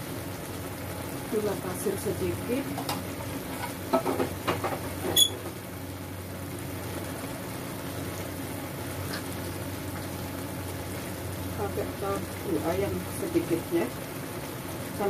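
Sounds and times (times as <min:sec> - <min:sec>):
pot simmering and bubbling: 0:00.0 - 0:15.0.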